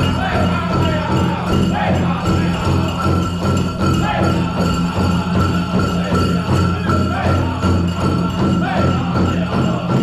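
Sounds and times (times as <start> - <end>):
group singing: 0.0 - 10.0
large drum steady beat: 0.0 - 10.0.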